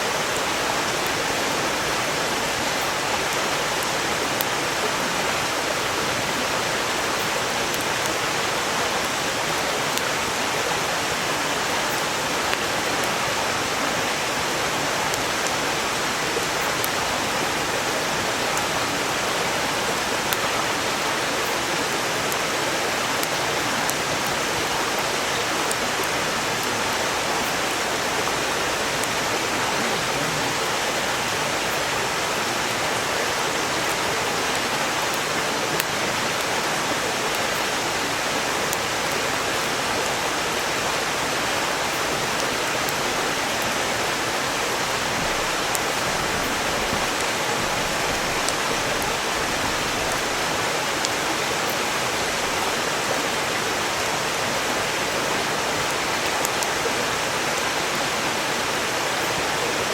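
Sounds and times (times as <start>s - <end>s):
campfire crackles: 0.0s - 58.0s
mountain stream rushing: 0.0s - 59.9s.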